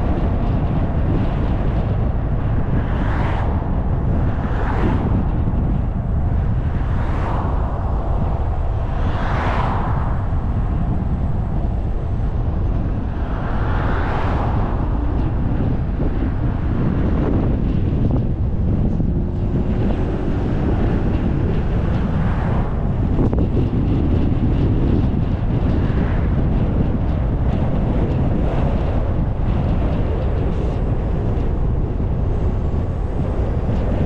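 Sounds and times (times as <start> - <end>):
car road noise: 0.0 - 34.0
oncoming cars passing: 0.0 - 34.0
wind rumble on microphone: 0.0 - 34.0.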